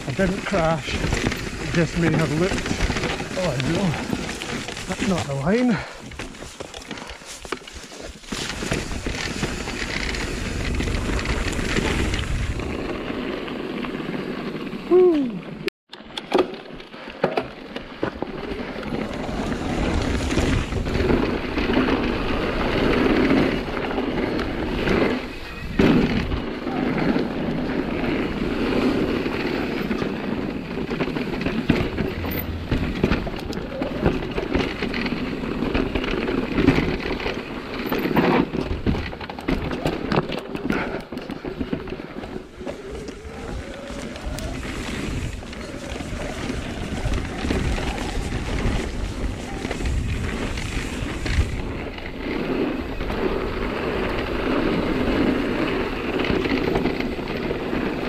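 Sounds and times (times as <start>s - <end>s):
bike rattles and knocks: 0.0s - 14.4s, 16.0s - 58.0s
tyres rumbling over gravel: 0.0s - 14.9s, 17.0s - 58.0s.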